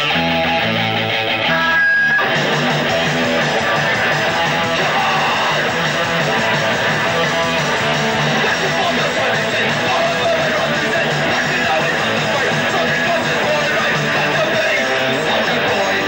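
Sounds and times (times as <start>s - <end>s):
live punk rock band: 0.0s - 16.0s.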